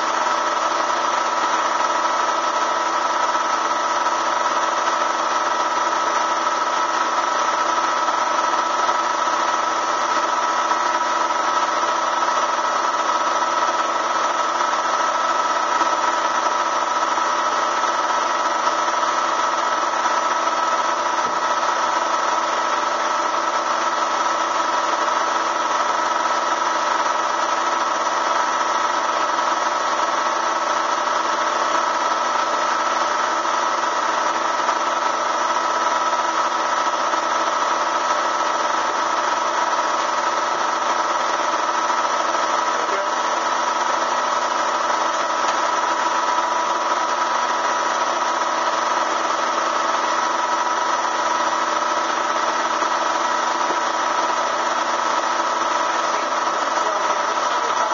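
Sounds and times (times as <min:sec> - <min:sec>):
vacuum motor whine: 0:00.0 - 0:57.9.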